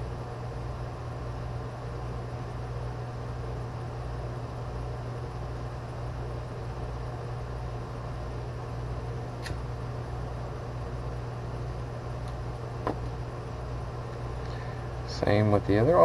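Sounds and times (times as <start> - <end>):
low mechanical hum with hiss: 0.0 - 16.0.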